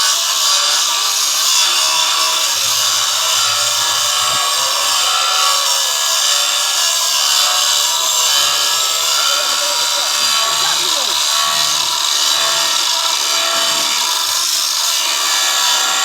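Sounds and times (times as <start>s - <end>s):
power tool hissing: 0.0s - 16.0s.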